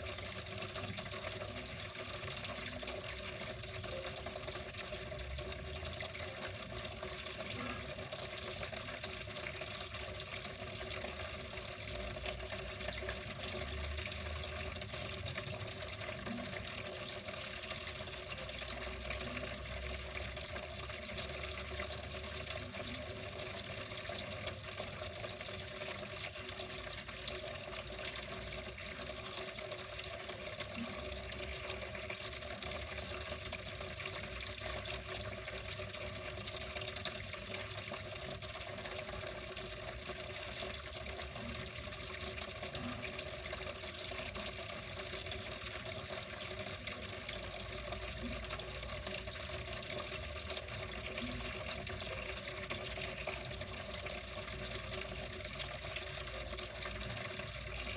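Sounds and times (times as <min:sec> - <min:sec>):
water flowing: 0:00.0 - 0:57.9.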